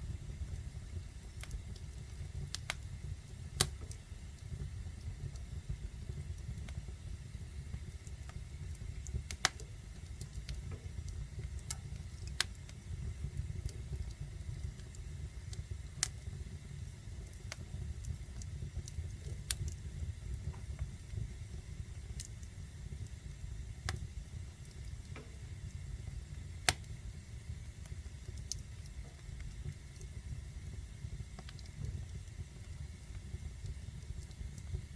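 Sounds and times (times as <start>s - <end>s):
fire rumbling: 0.0s - 34.9s
wood fire crackling and popping: 0.0s - 34.9s.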